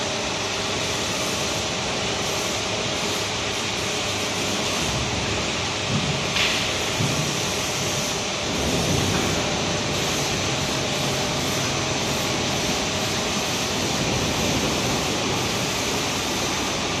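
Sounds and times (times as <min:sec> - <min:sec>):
machinery running steadily: 0:00.0 - 0:17.0.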